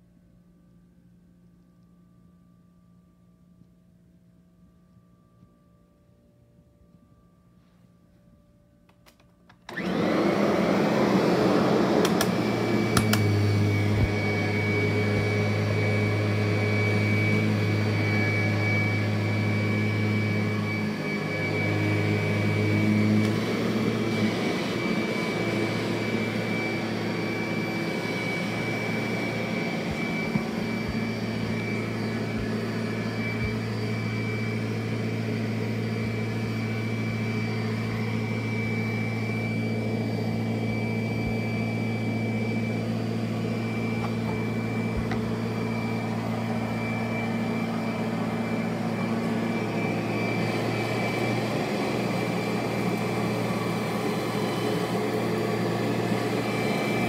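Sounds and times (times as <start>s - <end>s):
vacuum cleaner whining: 9.0s - 57.0s.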